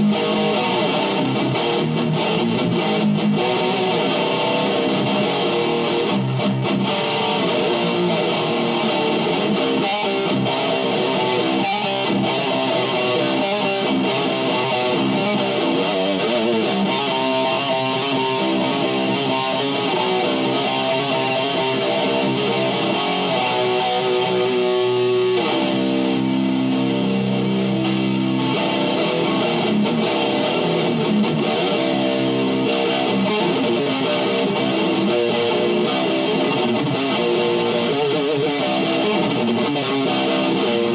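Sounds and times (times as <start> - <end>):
electric guitar metal riffs: 0.0 - 40.9.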